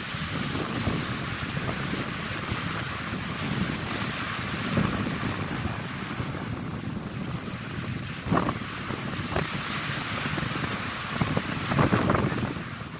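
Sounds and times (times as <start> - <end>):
small waves washing onto sand: 0.0 - 12.9
wind buffeting microphone: 0.0 - 12.9.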